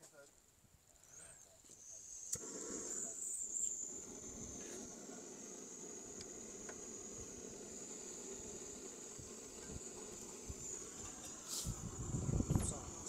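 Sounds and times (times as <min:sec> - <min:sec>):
crickets chirping: 0:00.4 - 0:13.0.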